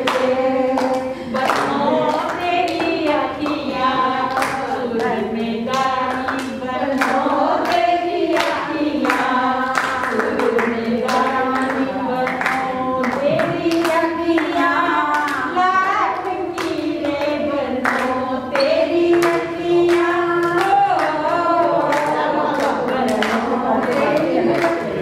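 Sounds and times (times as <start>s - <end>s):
group of voices singing: 0.0s - 25.0s
hands clapping along: 0.0s - 25.0s.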